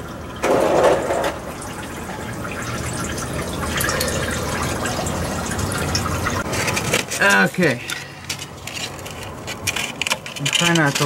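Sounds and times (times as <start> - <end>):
coolant gushing and pouring: 0.0 - 11.0.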